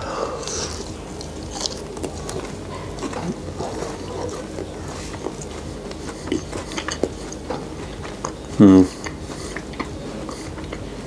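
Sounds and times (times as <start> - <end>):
person chewing with wet mouth clicks: 0.4 - 10.9.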